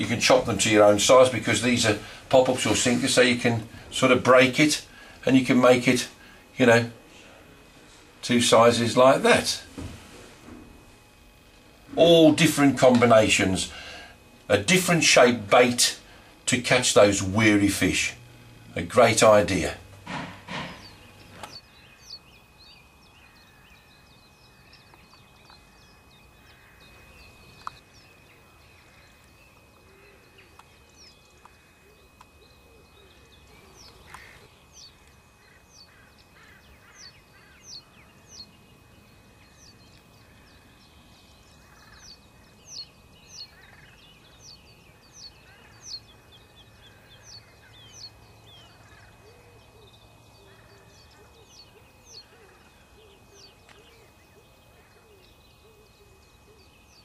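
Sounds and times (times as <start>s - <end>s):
faint outdoor background noise: 0.0s - 57.0s
songbirds chirping: 0.0s - 57.0s.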